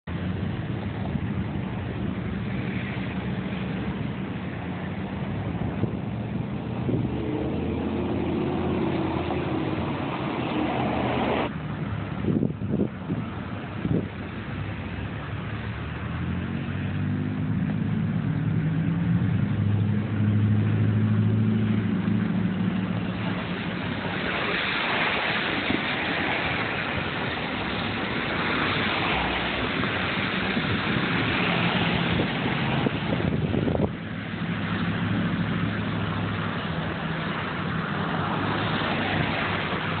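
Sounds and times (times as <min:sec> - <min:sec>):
engine hum: 0:00.0 - 0:40.0
passing traffic rushing: 0:00.0 - 0:40.0.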